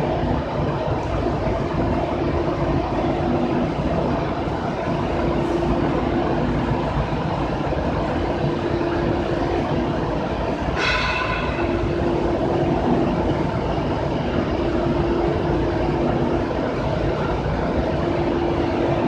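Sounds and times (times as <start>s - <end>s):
machine rumbling and humming: 0.0s - 19.0s.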